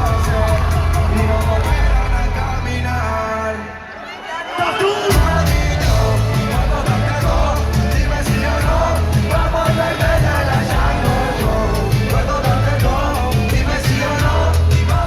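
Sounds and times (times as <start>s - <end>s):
steady drum beat: 0.0s - 2.4s, 5.1s - 15.0s
heavy bass line: 0.0s - 3.6s, 5.1s - 15.0s
person singing: 0.0s - 15.0s.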